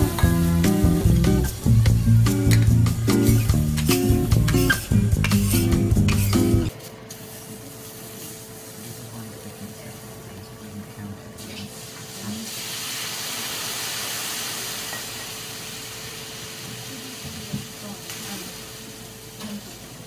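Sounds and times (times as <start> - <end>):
hissing sizzle on hot griddle: 0.0 - 10.0, 11.4 - 20.0.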